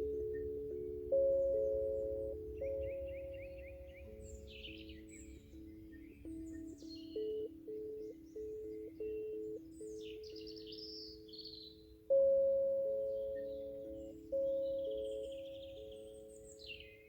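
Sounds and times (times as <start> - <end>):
singing bowl ringing: 0.0 - 10.8, 12.1 - 17.0
birds chirping: 0.0 - 17.0.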